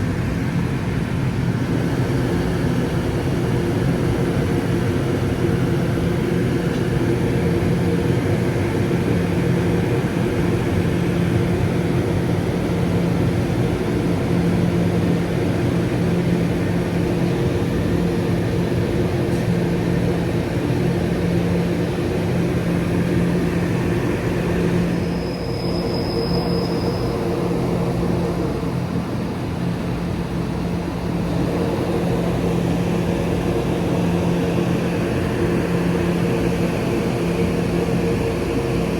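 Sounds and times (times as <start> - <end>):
train running with low hum: 0.0 - 38.9.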